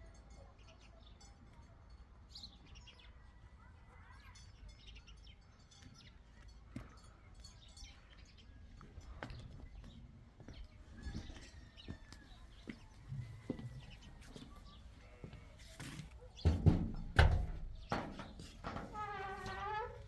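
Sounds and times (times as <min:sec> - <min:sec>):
birds chirping faintly: 0:02.3 - 0:20.0.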